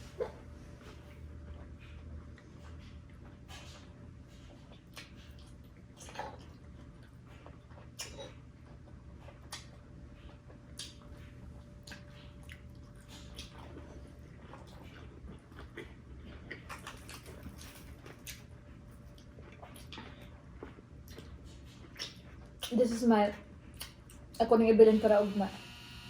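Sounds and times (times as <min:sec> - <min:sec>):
chewing and mouth smacks: 0:00.1 - 0:23.0, 0:23.7 - 0:24.4.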